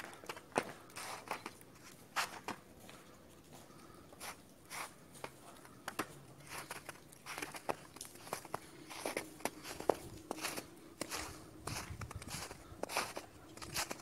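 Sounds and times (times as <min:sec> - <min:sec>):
footsteps crunching on snow: 0:00.0 - 0:14.0.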